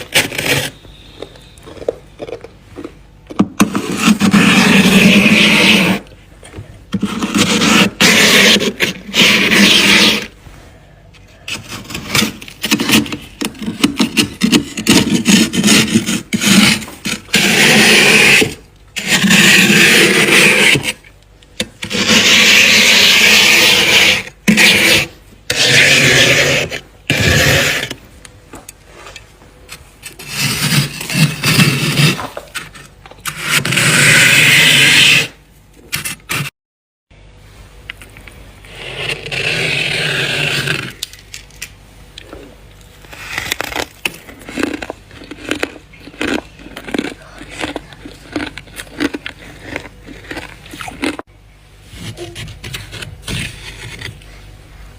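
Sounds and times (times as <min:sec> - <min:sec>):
frost being scraped: 0:00.0 - 0:01.6, 0:03.6 - 0:06.2, 0:06.9 - 0:10.7, 0:11.3 - 0:28.0, 0:30.0 - 0:36.5, 0:38.6 - 0:41.1, 0:43.0 - 0:51.3, 0:51.9 - 0:54.3.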